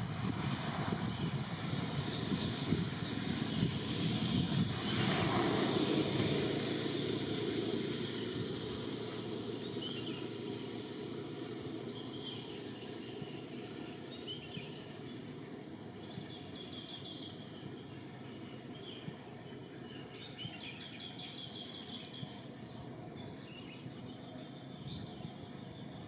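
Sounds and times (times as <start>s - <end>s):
low rumbling noise: 0.0s - 26.0s.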